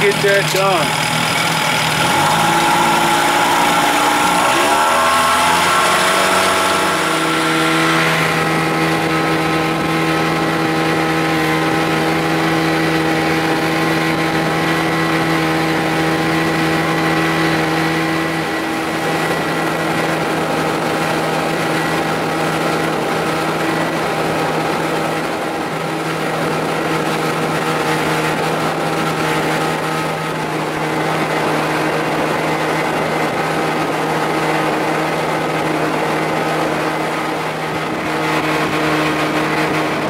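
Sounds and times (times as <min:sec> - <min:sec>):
outboard motor running: 0:00.0 - 0:40.0.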